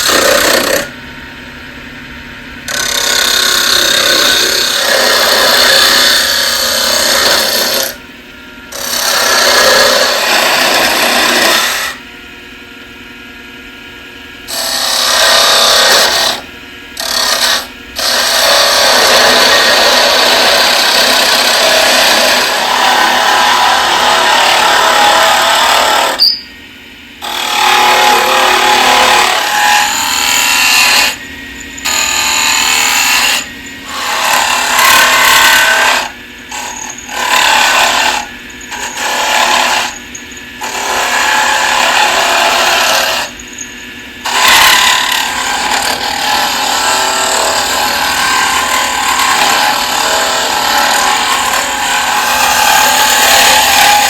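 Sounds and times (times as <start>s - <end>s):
lathe tool cutting wood: 0.0s - 0.9s, 2.7s - 8.0s, 8.7s - 12.0s, 14.5s - 26.2s, 27.2s - 31.2s, 31.8s - 43.6s, 44.2s - 54.0s
lathe motor hum: 0.0s - 1.0s, 2.7s - 8.0s, 8.7s - 12.1s, 14.5s - 26.2s, 27.2s - 54.0s.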